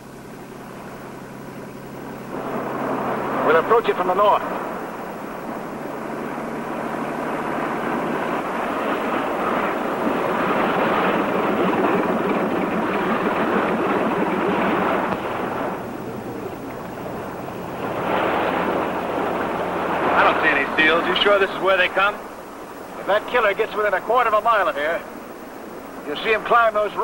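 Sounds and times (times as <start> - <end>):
motorboat engine running: 0.0 - 27.0
water rushing against hull: 0.0 - 27.0.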